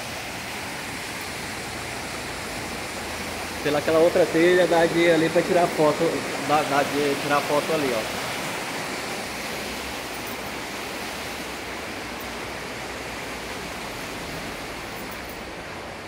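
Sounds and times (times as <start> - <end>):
waterfall and stream rushing: 0.0 - 16.0.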